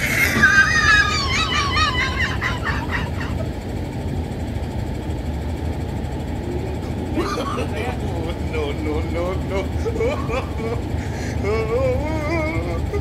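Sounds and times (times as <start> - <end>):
truck engines and traffic rumble: 0.0 - 13.0.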